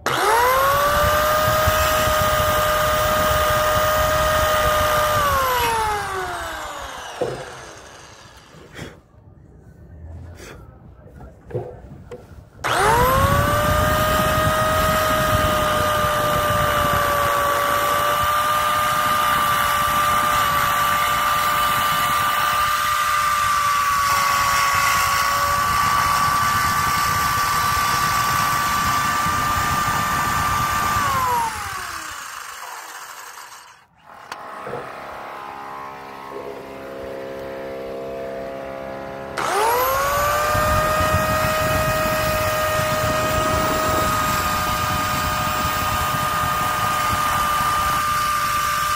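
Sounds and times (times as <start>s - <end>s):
circular saw motor whining: 0.0s - 9.0s, 12.6s - 48.9s.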